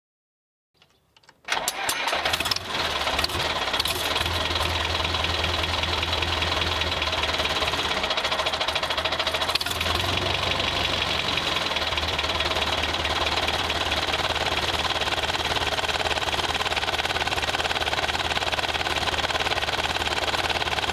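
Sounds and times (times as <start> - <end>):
tractor engine clattering: 1.4 - 20.9.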